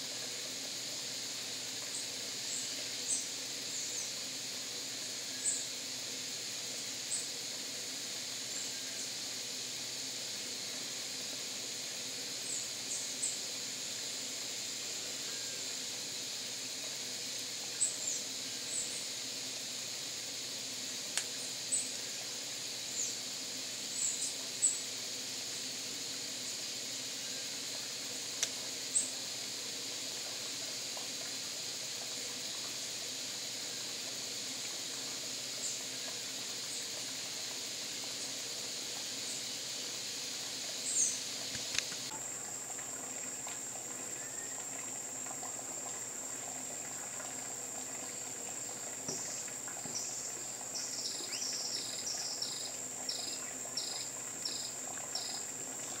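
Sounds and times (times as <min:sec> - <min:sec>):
high-pitched insect drone: 0:00.0 - 0:42.3, 0:48.2 - 0:56.0.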